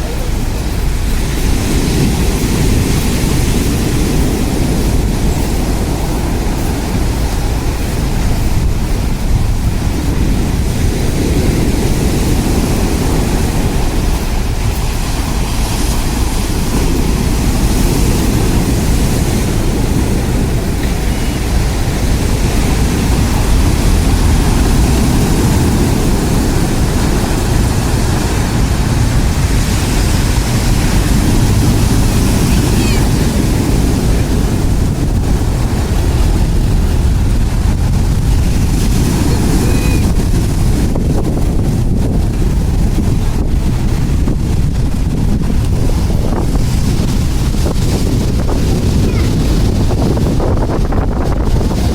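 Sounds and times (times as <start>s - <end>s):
surf roaring on pebble beach: 0.0s - 51.9s.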